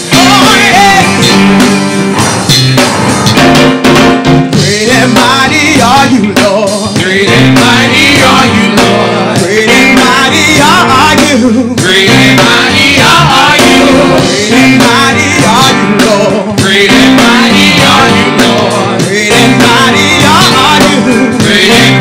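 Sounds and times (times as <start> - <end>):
worship singing with instruments: 0.0 - 2.1, 4.6 - 22.0.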